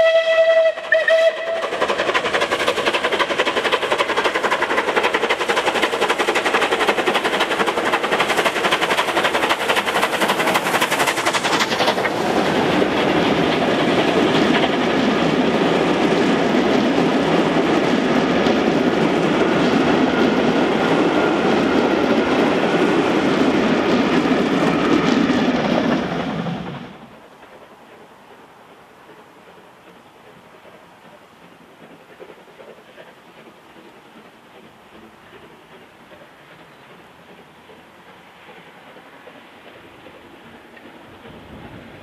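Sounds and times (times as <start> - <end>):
steam locomotive exhaust beats: 0.0 - 42.0.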